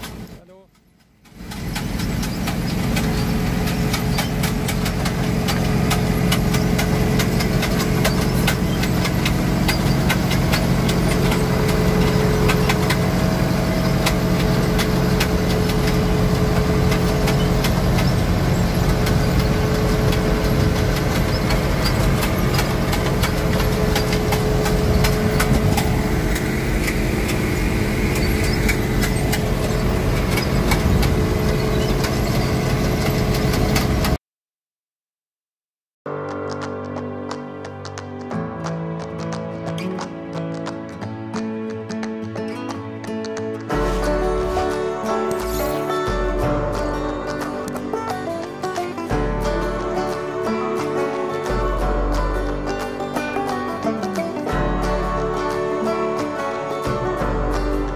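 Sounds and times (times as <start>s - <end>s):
diesel engines running: 0.0s - 34.2s, 37.3s - 57.9s.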